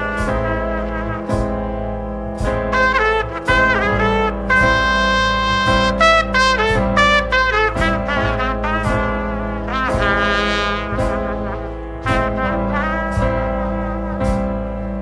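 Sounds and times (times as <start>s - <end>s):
jazz band instrumental: 0.0s - 15.0s
trumpet and trombone lines: 0.0s - 15.0s.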